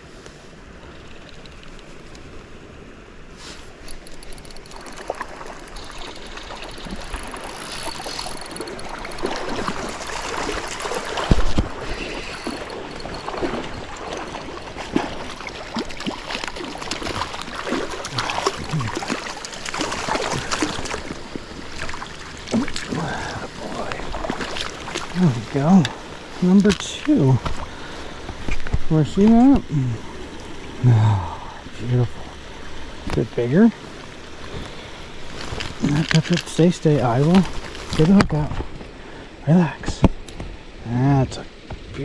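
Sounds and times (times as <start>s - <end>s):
creek water running: 0.5s - 42.0s.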